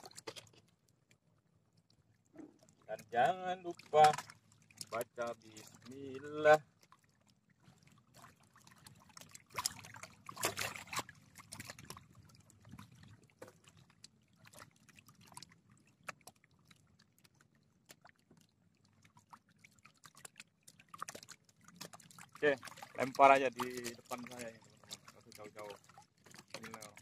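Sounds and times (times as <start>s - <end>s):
soft water sounds: 0.0s - 27.0s.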